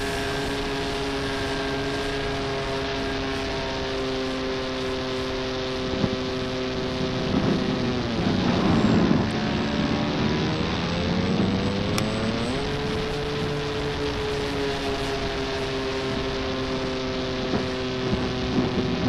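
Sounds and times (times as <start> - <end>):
electric motor and propeller whine: 0.0 - 19.0.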